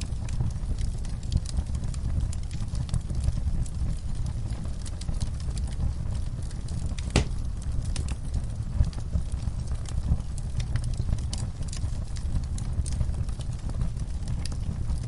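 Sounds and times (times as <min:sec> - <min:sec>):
fire flames rumbling: 0:00.0 - 0:15.0
wood fire pops and snaps: 0:00.0 - 0:15.0.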